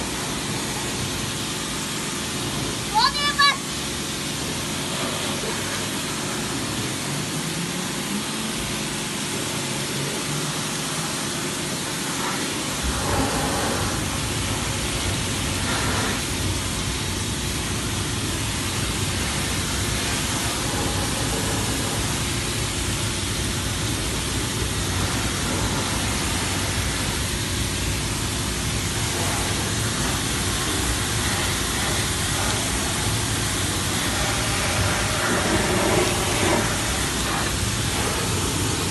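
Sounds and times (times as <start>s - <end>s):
pressure washer spraying: 0.0s - 38.9s.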